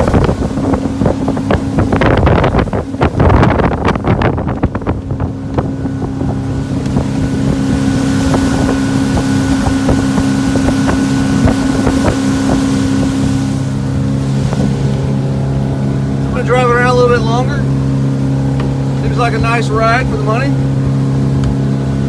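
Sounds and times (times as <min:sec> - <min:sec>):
boat engine droning: 0:00.0 - 0:22.0
wind on microphone: 0:00.0 - 0:22.0.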